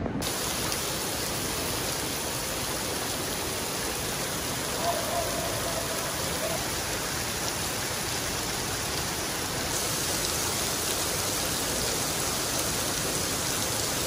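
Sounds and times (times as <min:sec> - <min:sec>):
heavy rain on cobblestones: 0:00.0 - 0:14.0.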